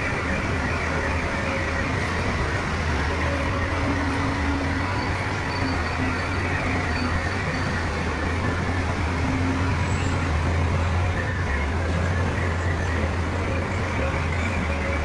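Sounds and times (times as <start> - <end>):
diesel machinery engine hum: 0.0 - 15.0.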